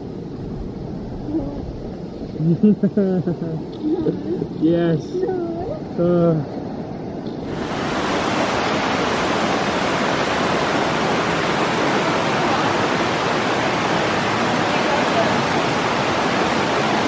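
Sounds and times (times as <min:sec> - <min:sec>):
rushing water: 0:03.2 - 0:17.0.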